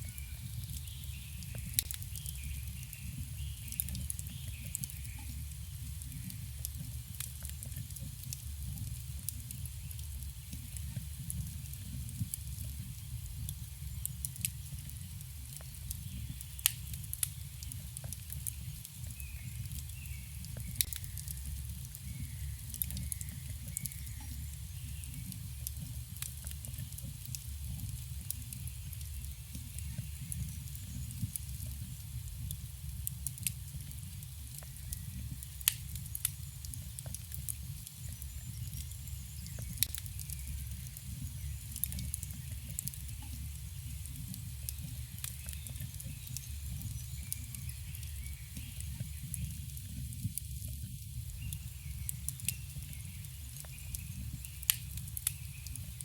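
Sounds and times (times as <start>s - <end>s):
fire low rumble: 0.0s - 56.0s
wood crackling and popping: 0.0s - 56.0s.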